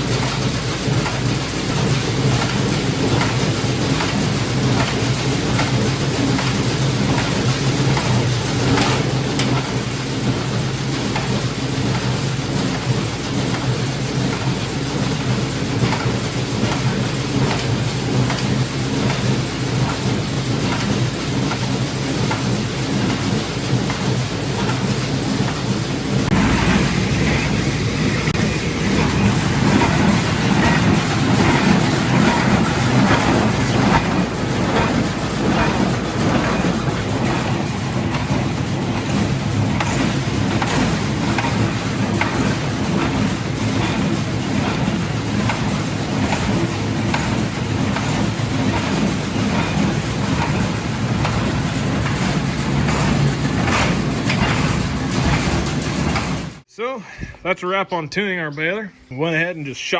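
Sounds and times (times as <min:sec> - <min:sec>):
baler clattering: 0:00.0 - 0:56.6
tractor engine drone: 0:00.0 - 0:57.8.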